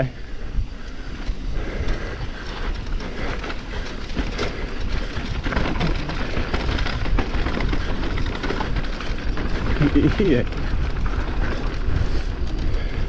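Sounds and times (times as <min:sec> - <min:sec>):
bike rattles and knocks: 0:00.0 - 0:13.0
tyres rumbling on dirt trail: 0:00.0 - 0:13.0
wind on microphone: 0:00.0 - 0:13.0.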